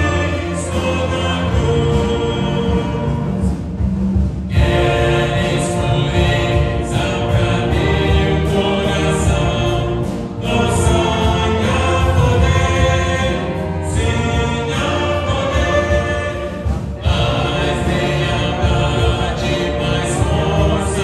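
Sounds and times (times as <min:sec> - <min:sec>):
wind orchestra playing a hymn: 0:00.0 - 0:21.0.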